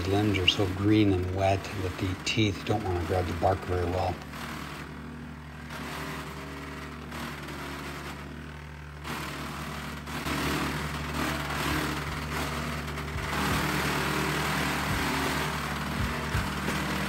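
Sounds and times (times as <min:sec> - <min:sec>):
wood chipper chipping branches: 0:00.0 - 0:17.0.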